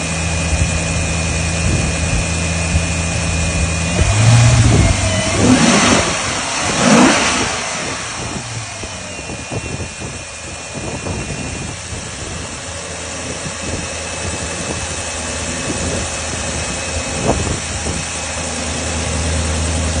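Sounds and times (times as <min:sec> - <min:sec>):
car engine revving and idling: 0:00.0 - 0:20.0.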